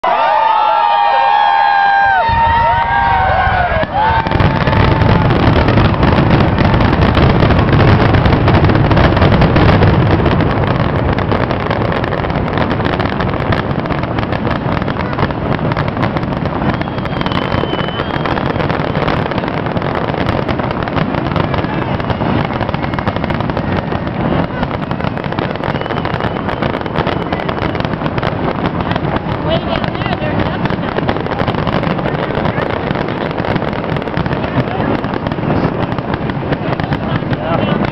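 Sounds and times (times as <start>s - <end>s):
fireworks bangs and crackling: 0.0s - 37.9s.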